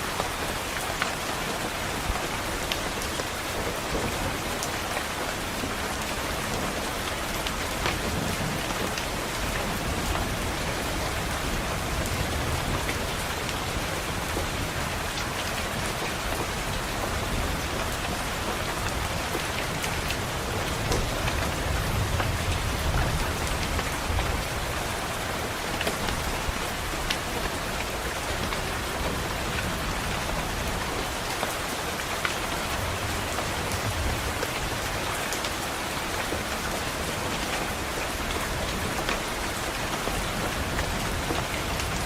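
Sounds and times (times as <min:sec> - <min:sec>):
rain pattering on a window: 0:00.0 - 0:42.0.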